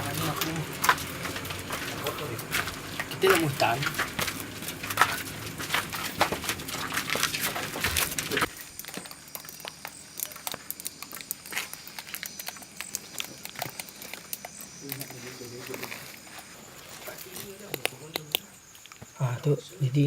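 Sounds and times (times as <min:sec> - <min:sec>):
footsteps on gritty floor: 0:00.0 - 0:18.2
irregular clicks and crackles: 0:00.0 - 0:19.2.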